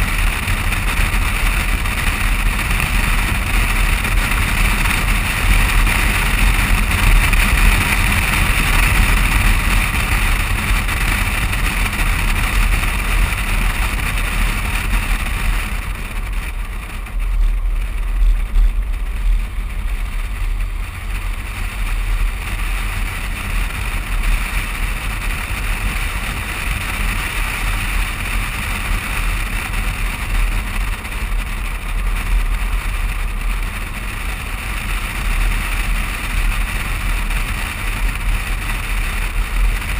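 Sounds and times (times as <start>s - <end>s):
deep rumble: 0.0s - 39.9s
tyre road noise: 0.0s - 39.9s
wind rushing past vehicle: 0.0s - 39.9s.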